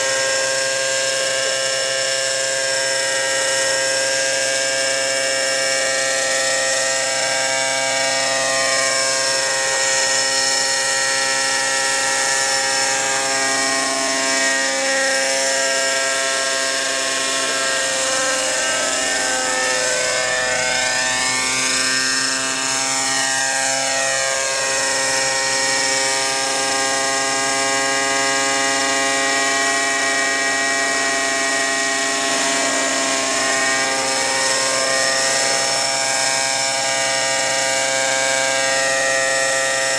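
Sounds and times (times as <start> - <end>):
model helicopter engine buzzing: 0.0 - 39.9.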